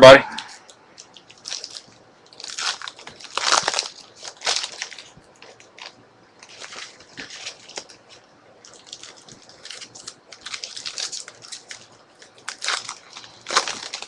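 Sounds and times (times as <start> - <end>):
foil wrappers crinkling and tearing: 1.0 - 14.0.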